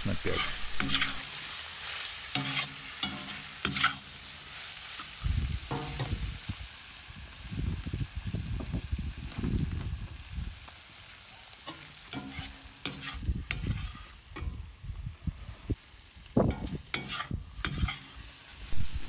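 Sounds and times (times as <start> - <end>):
food sizzling: 0.0 - 19.0.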